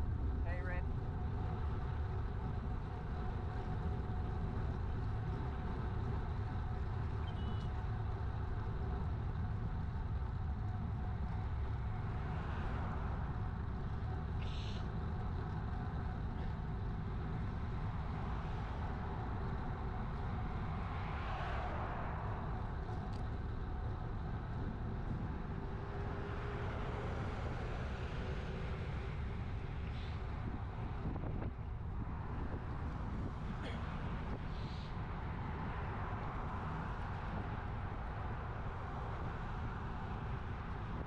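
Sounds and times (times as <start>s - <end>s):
motor vehicles passing: 0.0s - 41.0s
wind rumble on microphone: 0.0s - 41.0s.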